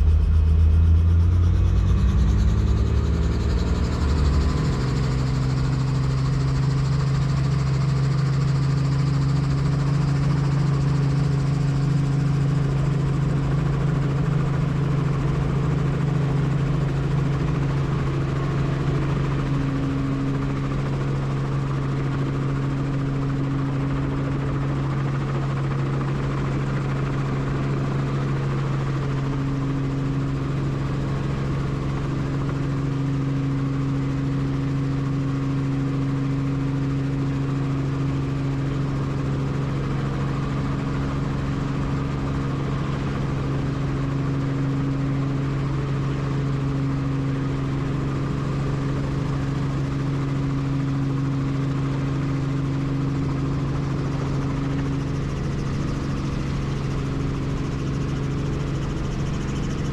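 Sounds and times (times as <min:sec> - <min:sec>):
helicopter turbine and rotors drone: 0:00.0 - 0:59.9.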